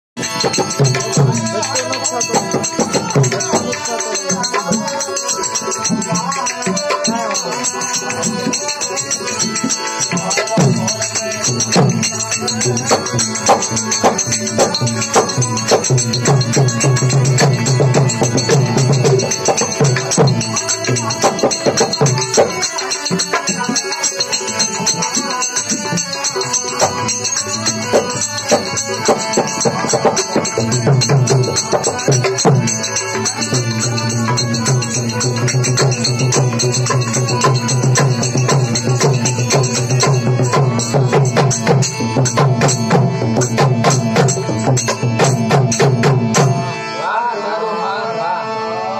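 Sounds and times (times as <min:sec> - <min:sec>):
tabla drums: 0:00.2 - 0:47.0
harmonium playing: 0:00.2 - 0:48.9
man singing: 0:00.2 - 0:48.9.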